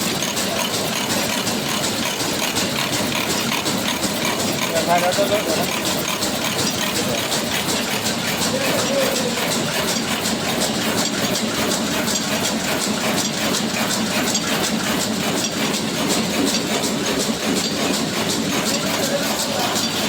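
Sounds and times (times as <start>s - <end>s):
power loom clattering: 0.0s - 20.0s.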